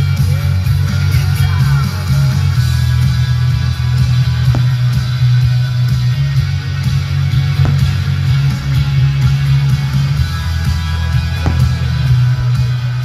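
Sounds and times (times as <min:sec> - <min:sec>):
loud guitar music with bass: 0:00.0 - 0:13.0.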